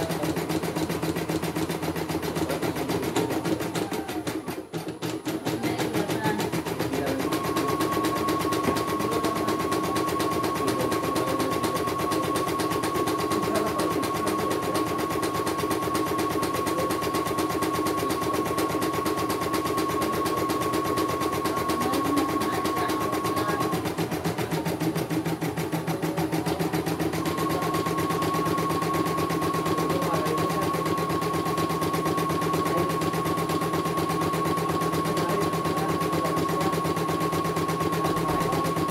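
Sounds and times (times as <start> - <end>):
embroidery machine needle clatter: 0.0 - 38.9
high machine whine: 5.7 - 38.9.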